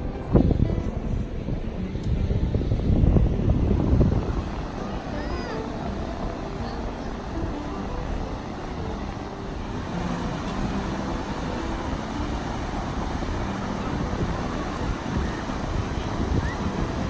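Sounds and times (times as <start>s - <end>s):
distant voices: 0.0s - 17.0s
ocean surf washing: 0.0s - 17.0s
wind rumble on microphone: 0.0s - 17.0s.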